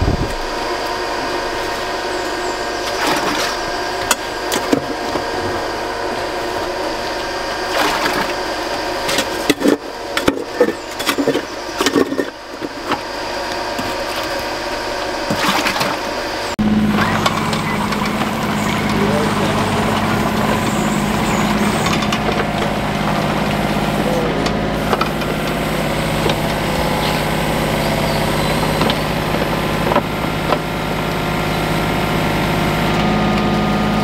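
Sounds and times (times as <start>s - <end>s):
excavator engine running: 0.0s - 34.0s
steady machine hum: 0.0s - 34.0s.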